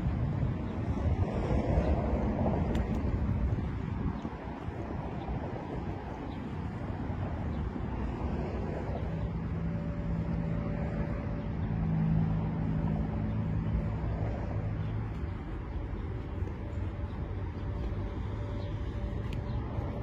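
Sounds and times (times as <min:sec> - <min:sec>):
outdoor background noise: 0:00.0 - 0:20.0
vehicle engine running: 0:01.8 - 0:20.0.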